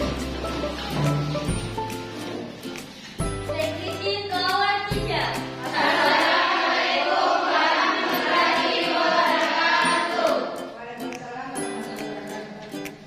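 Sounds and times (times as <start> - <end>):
voices singing with music: 0.0 - 13.0.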